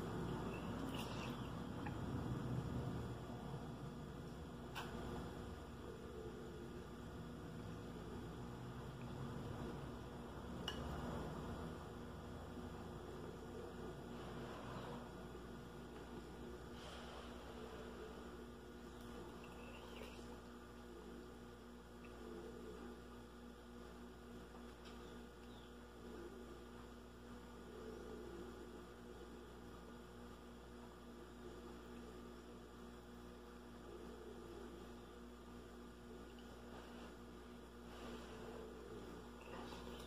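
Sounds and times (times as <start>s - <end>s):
faint electrical hum: 0.0s - 40.0s.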